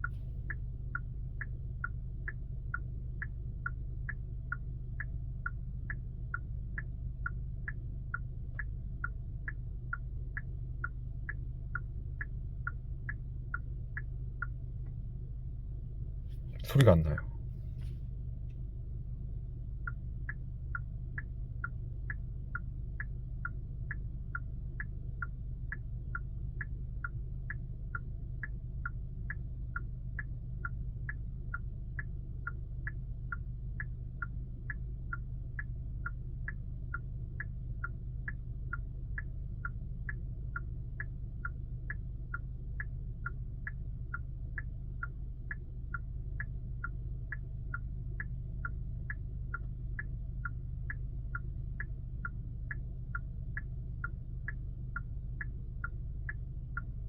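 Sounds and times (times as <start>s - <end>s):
car rumble on road: 0.0s - 57.0s
turn signal ticking: 0.0s - 57.0s.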